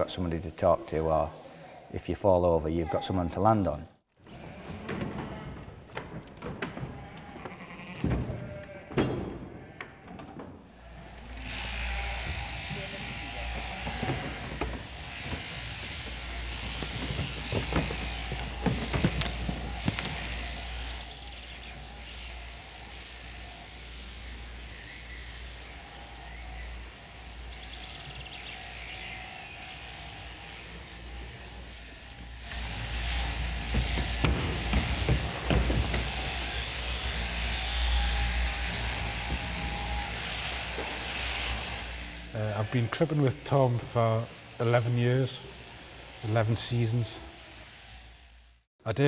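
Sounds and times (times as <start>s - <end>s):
electric shears buzzing: 0.0s - 1.9s, 5.9s - 10.0s, 10.7s - 48.7s.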